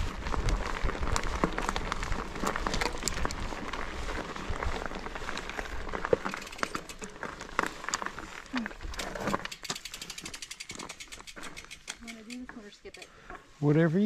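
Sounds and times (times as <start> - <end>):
bike freewheel hub clicking: 0.0 - 13.3
rustling trail noise: 0.0 - 14.0.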